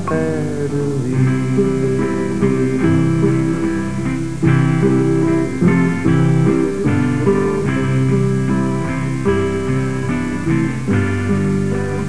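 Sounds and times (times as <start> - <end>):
acoustic guitar folk music: 0.0 - 12.0.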